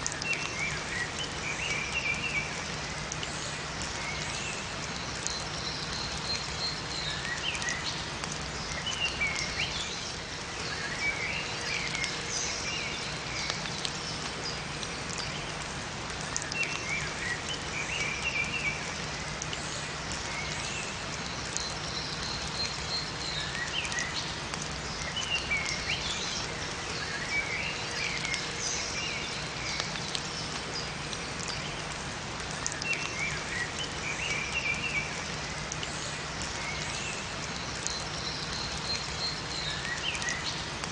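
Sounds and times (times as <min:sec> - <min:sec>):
songbirds chirping: 0:00.0 - 0:40.9
steady rain falling: 0:00.0 - 0:40.9.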